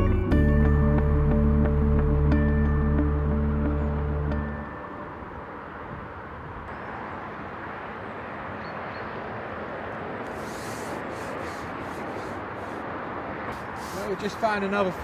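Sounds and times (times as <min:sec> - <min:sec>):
outdoor background noise: 0:00.6 - 0:15.0.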